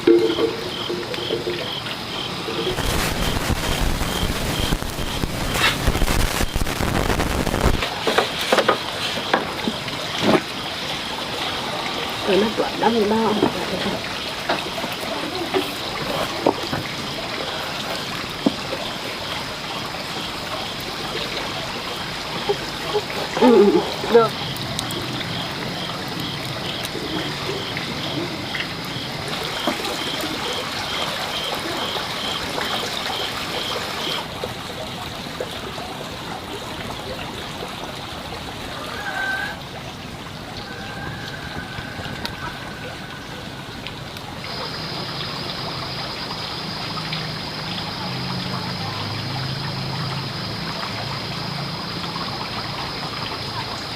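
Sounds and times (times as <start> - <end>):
water trickling: 0.0 - 6.6, 7.7 - 53.9.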